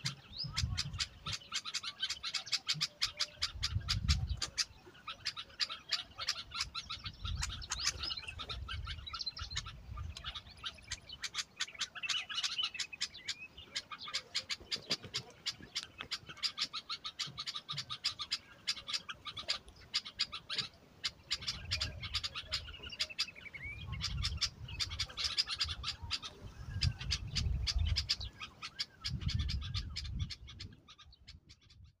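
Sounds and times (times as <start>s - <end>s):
birds chirping rapidly: 0.0s - 32.0s.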